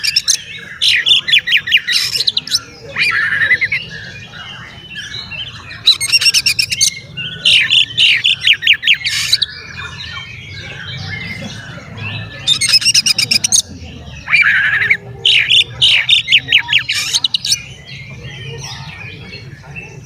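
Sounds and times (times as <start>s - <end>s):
bird harsh repeated notes: 0.0s - 18.1s
bird warbling and twittering: 0.0s - 20.0s.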